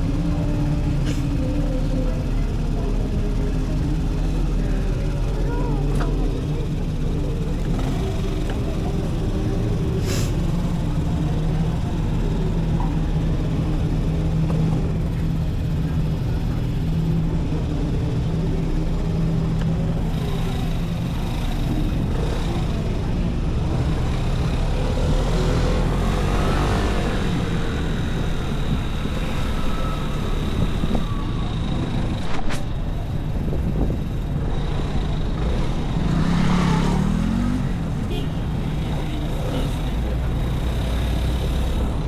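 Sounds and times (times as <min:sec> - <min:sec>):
scooter engine running: 0:00.0 - 0:42.0.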